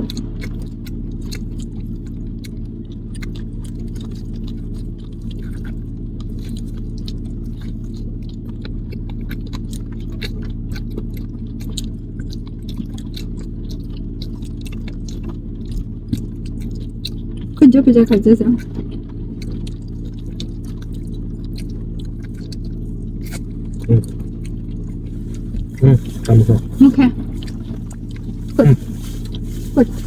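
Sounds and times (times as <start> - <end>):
chewing corn on the cob: 0.0 - 30.0
steady low hum: 0.0 - 30.0.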